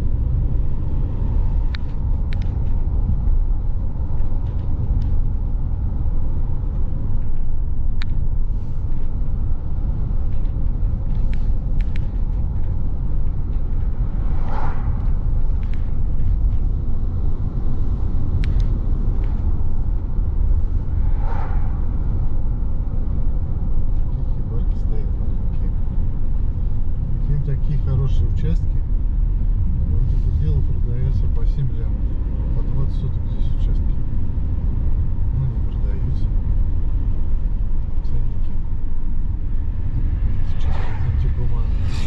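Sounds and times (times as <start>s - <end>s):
car driving rumble inside cabin: 0.0s - 42.0s.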